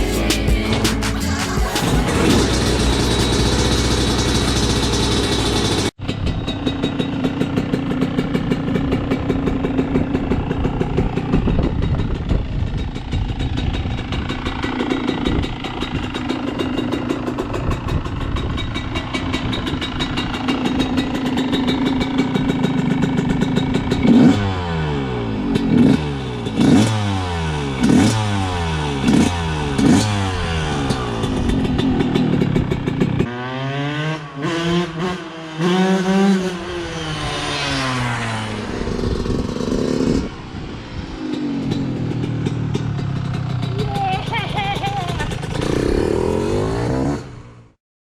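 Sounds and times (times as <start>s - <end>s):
two-stroke motorcycle engine revving: 0.0s - 47.8s.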